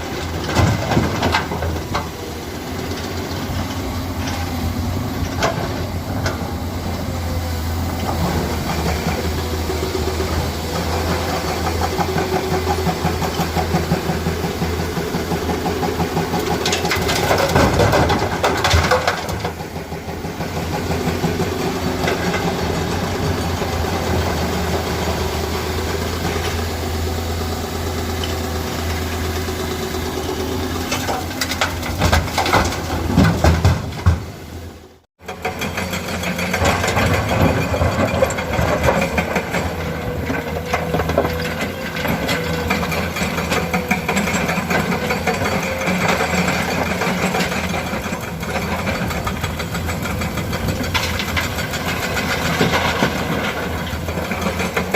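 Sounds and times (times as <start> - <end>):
excavator diesel engine: 0.0 - 54.9.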